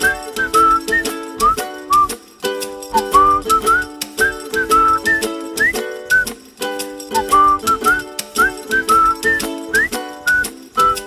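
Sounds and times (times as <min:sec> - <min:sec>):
whistled melody: 0:00.0 - 0:11.0.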